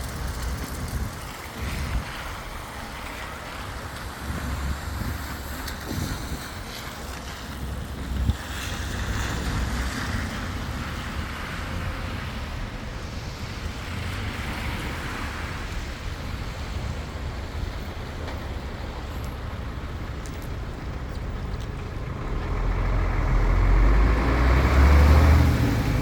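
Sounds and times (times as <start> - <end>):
steady rain: 0.0 - 26.0
wind buffeting microphone: 0.0 - 26.0.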